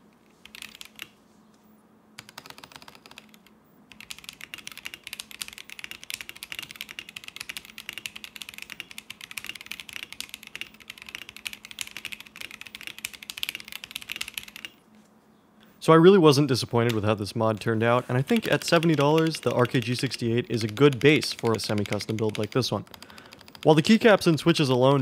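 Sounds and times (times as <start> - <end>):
mechanical keyboard typing: 0.2 - 1.1, 2.2 - 14.8, 16.8 - 25.0.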